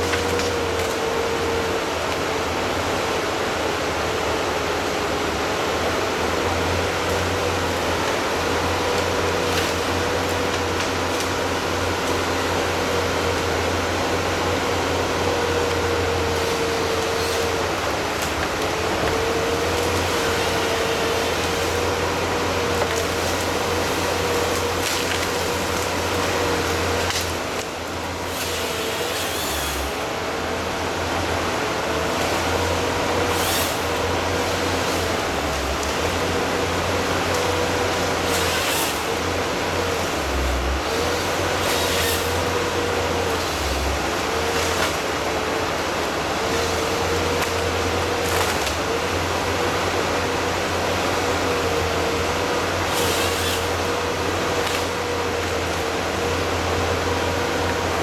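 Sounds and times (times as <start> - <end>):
forestry harvester engine running: 0.0 - 58.0
hydraulic whine: 6.2 - 58.0.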